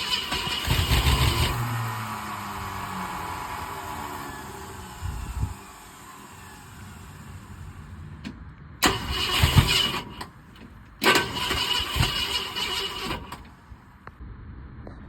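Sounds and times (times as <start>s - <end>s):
engine cranked by starter: 0.0s - 14.0s.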